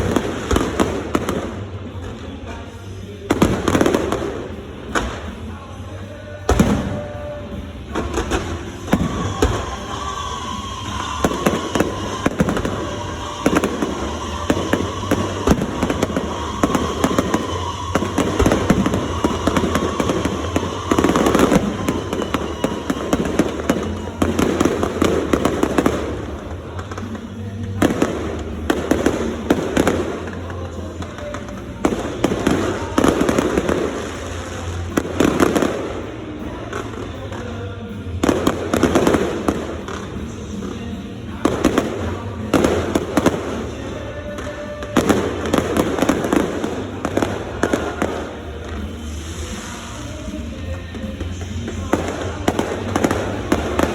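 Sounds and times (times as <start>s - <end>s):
fireworks bangs and crackles: 0.0s - 53.9s
music playing: 0.0s - 53.9s.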